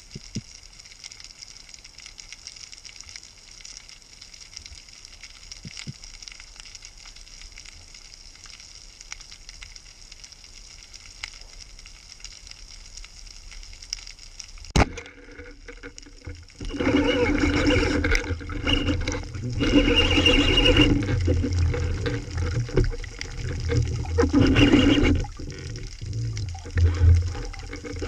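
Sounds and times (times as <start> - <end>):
underwater crackling and hiss: 0.0 - 28.0.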